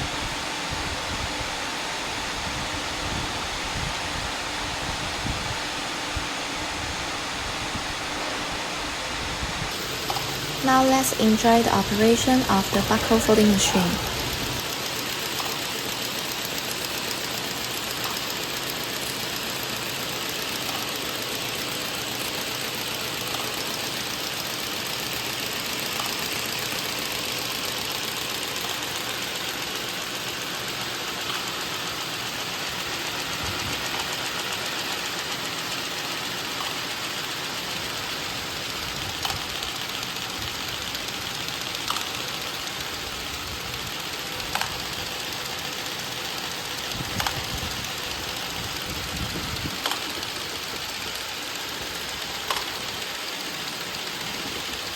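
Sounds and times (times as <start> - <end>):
folding machine whirring: 0.0 - 54.9
faint machine clicks: 9.7 - 54.9.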